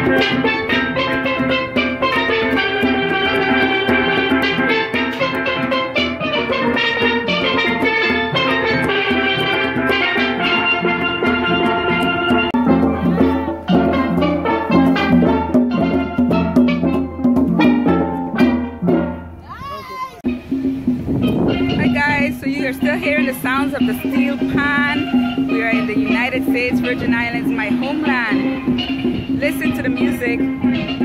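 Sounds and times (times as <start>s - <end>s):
conga drums: 0.0s - 31.0s
steel pans playing: 0.0s - 31.0s.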